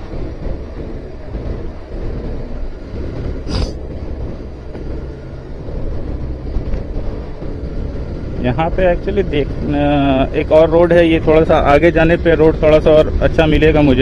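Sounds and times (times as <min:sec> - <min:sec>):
wind on microphone: 0:00.0 - 0:12.2
road noise: 0:00.0 - 0:14.0.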